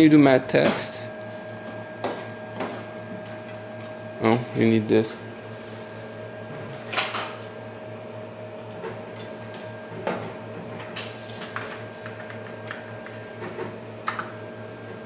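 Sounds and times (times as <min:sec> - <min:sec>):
machine hum with high tone: 0:00.0 - 0:15.0.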